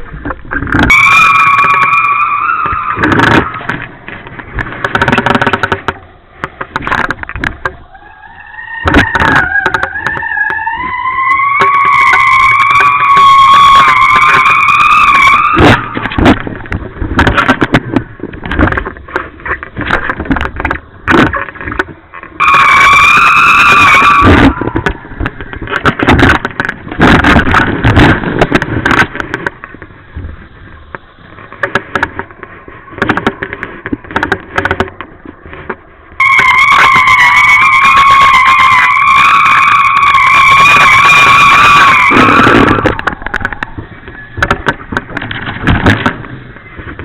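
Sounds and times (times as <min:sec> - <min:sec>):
wind rushing over microphone: 0:00.0 - 0:07.9, 0:08.6 - 0:47.0.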